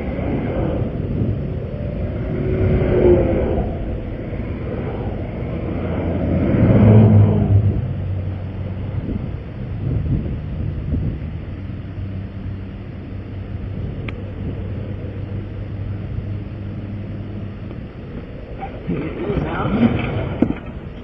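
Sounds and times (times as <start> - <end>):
steady low rumble: 0.0 - 21.0
traffic passing: 0.0 - 21.0.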